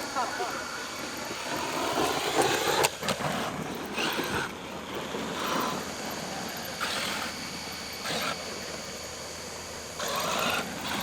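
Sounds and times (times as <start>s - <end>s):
radio-controlled car motors: 0.0s - 11.0s.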